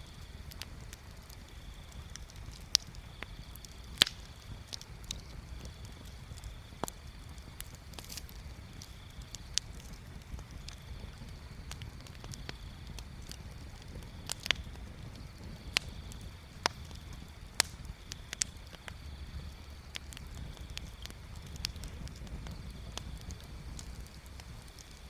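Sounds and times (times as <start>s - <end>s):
low steady rumble: 0.0s - 25.0s
wood bonfire crackling and popping: 0.0s - 25.0s.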